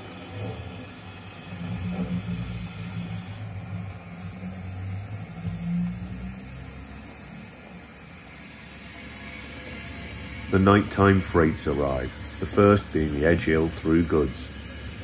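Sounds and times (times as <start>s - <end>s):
model train motor humming: 0.0s - 15.0s
faint high whine: 1.6s - 15.0s.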